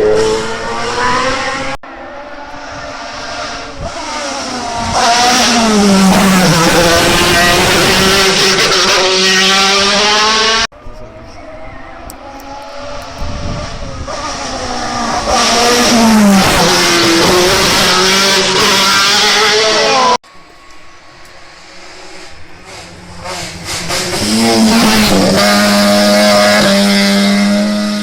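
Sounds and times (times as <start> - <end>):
race car engine passing: 0.0 - 28.0.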